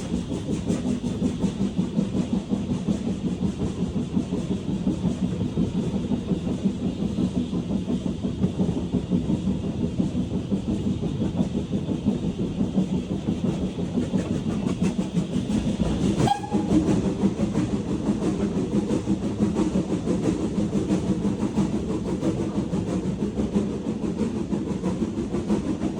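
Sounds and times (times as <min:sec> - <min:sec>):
train rumble and rattle: 0:00.0 - 0:25.9.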